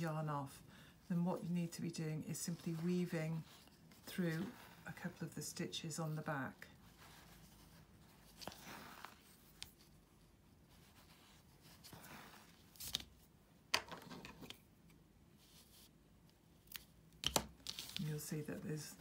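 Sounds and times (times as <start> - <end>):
fabric and yarn rustling: 0.0 - 13.3, 15.3 - 16.0, 16.8 - 19.0.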